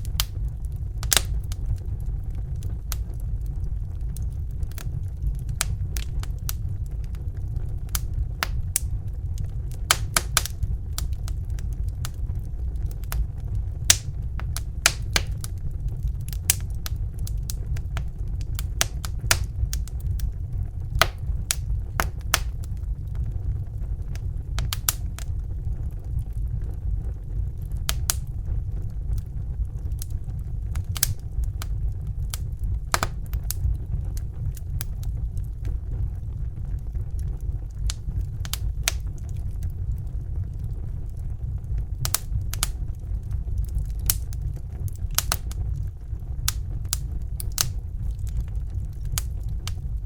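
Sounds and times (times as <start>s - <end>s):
fire pops and snaps: 0.0s - 50.0s
low fire rumble: 0.0s - 50.0s.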